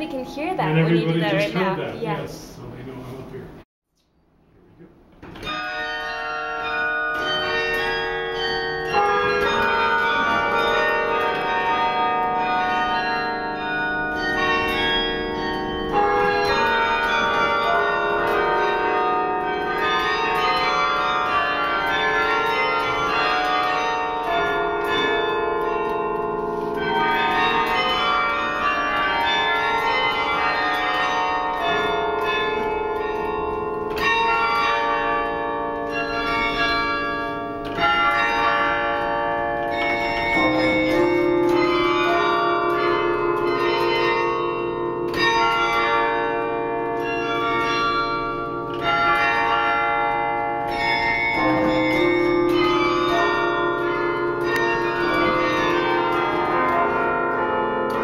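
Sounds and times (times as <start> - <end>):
carillon bells playing music: 5.4 - 58.0.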